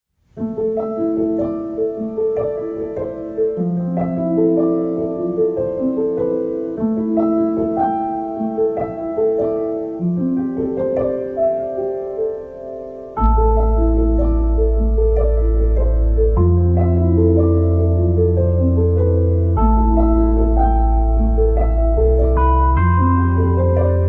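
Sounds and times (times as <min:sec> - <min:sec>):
keyboard melody: 0:00.4 - 0:24.0.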